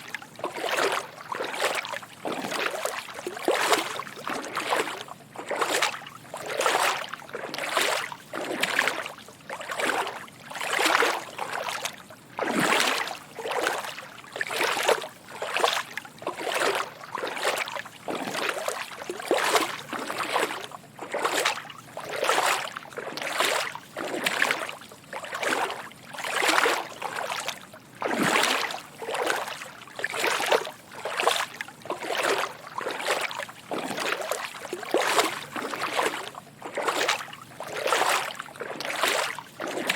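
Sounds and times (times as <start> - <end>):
footsteps wading through water: 0.0 - 39.9.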